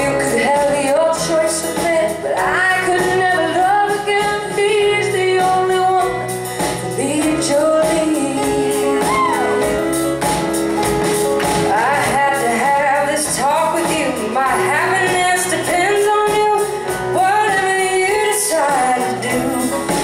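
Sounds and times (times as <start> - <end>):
electric bass: 0.0 - 20.0
electric guitar: 0.0 - 20.0.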